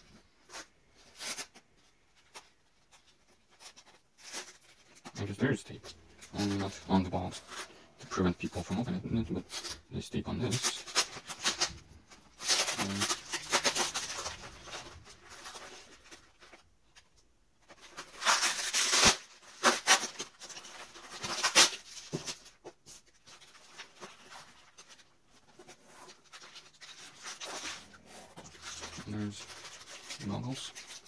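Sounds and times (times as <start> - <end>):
foam packing wrap rustling: 0.0 - 31.0
plastic tape peeling: 0.5 - 16.6, 17.7 - 31.0.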